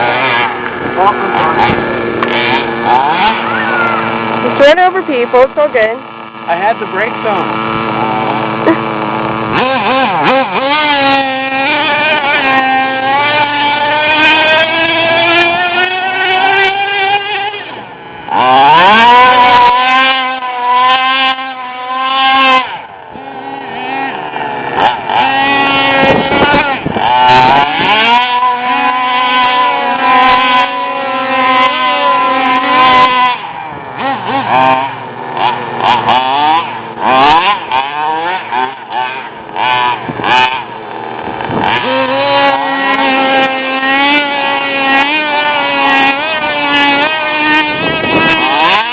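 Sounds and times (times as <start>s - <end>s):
small nitro engines revving: 0.0s - 48.9s.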